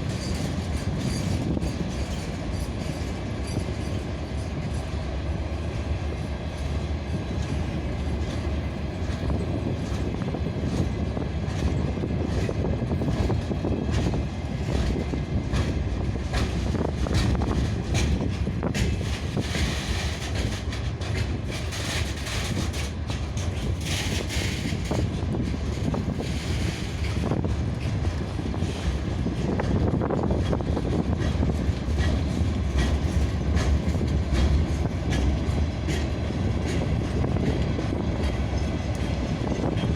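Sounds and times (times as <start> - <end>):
freight train rumble: 0.0 - 39.9
train wheels clicking over rail joints: 0.0 - 39.9.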